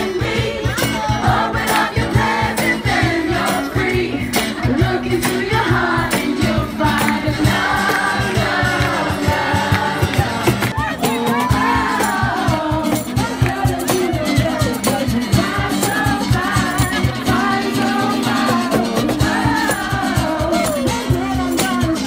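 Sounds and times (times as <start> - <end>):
fast percussion beat: 0.0 - 22.0
voices singing: 0.0 - 22.0.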